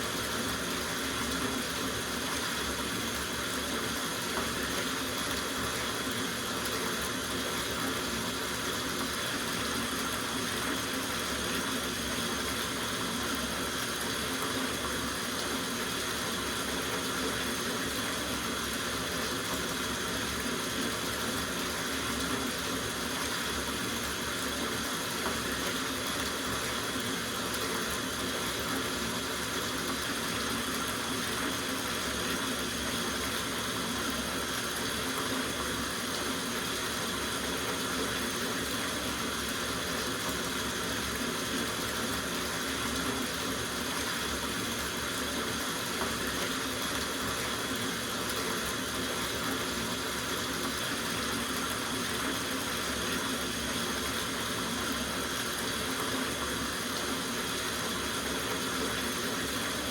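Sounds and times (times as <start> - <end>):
tap water running into bathtub: 0.0 - 59.9.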